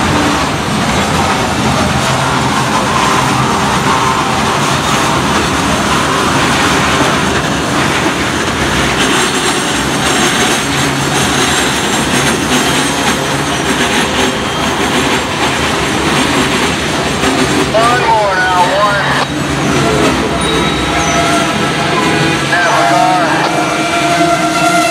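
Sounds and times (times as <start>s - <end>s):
freight train wheels rumbling on rails: 0.0s - 24.9s.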